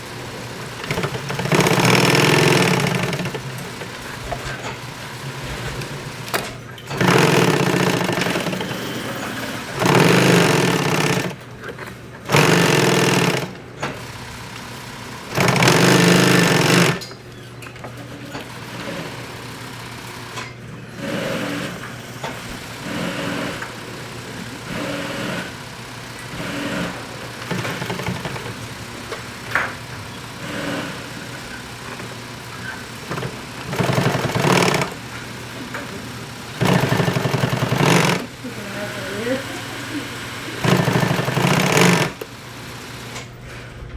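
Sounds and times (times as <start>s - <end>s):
sewing machine stitching: 0.0s - 17.2s, 18.0s - 43.6s.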